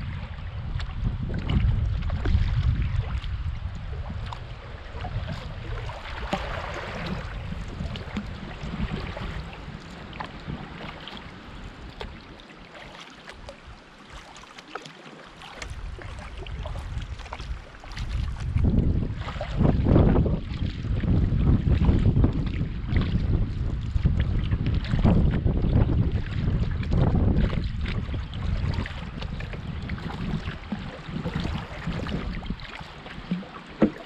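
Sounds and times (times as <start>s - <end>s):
wind rumbling on microphone: 0.0s - 12.5s, 15.4s - 34.0s
water splashing with paddle strokes: 0.0s - 34.0s.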